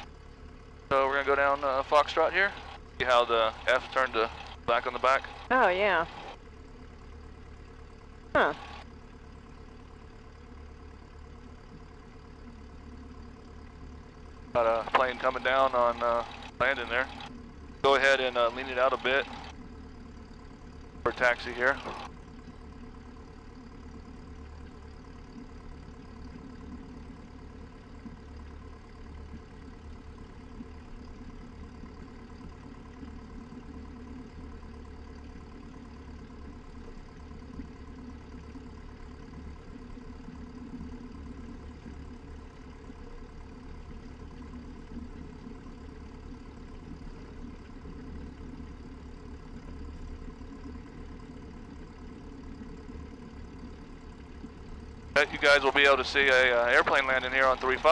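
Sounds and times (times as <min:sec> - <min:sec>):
piston aircraft engine running: 0:00.0 - 0:57.9.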